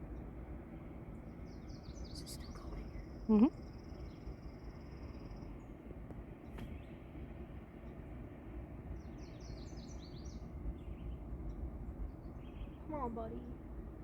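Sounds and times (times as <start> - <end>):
low outdoor rumble: 0.0 - 14.0
songbird chirping: 0.2 - 13.6.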